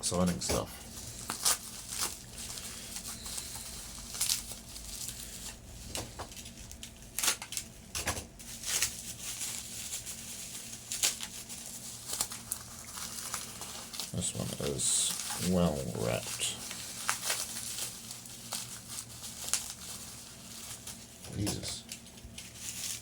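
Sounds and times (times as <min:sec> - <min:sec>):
packaging crinkling and tearing: 0:00.1 - 0:23.0.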